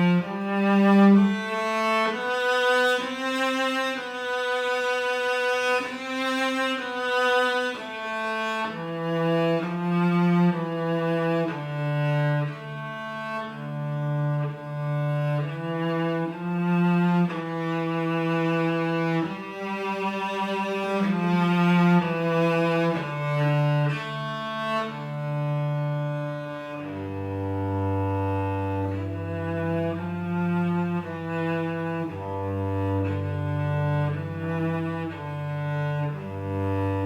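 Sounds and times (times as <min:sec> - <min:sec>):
cello melody: 0:00.0 - 0:37.0.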